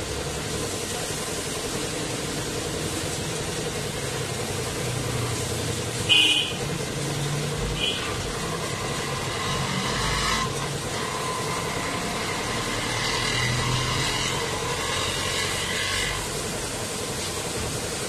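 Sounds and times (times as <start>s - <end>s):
motor vehicles passing: 0.0s - 17.9s
water jet hissing: 0.0s - 18.0s.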